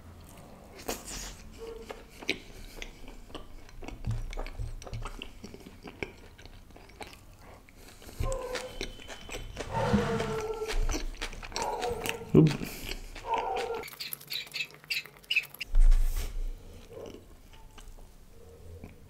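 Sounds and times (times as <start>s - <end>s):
close chewing with mouth smacks: 0.2s - 15.7s, 16.6s - 19.0s.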